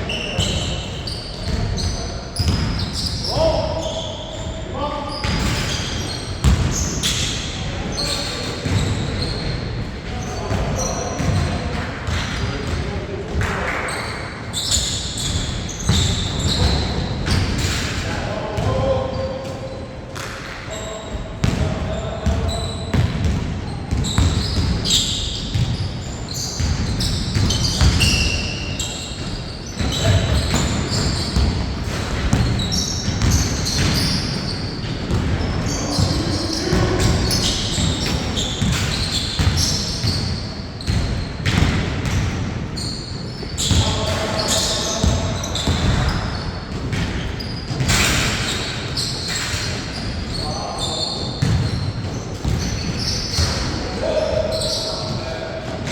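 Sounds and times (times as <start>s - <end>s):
shoe squeaks: 0.0s - 11.4s, 13.8s - 18.0s, 20.7s - 23.0s, 23.7s - 42.2s, 42.8s - 55.6s
basketball bouncing on court: 0.3s - 3.6s, 5.2s - 7.4s, 8.6s - 13.9s, 14.6s - 18.0s, 20.2s - 50.3s, 51.1s - 54.3s.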